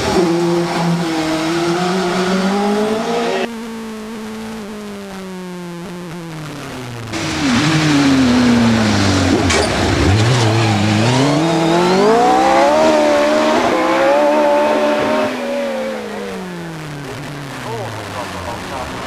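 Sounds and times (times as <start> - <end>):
racing car engine revving: 0.0 - 3.6, 6.6 - 19.0.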